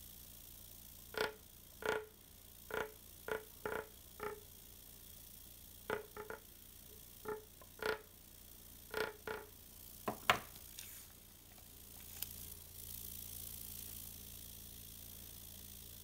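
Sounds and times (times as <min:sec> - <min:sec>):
engine buzzing in spurts: 0:00.0 - 0:10.0, 0:10.6 - 0:16.0.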